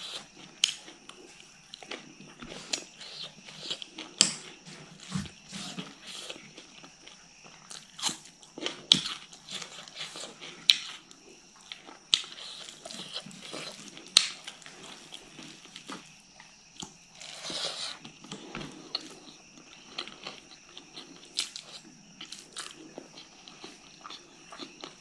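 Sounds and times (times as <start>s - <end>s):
chewing and crunching: 0.0s - 25.0s.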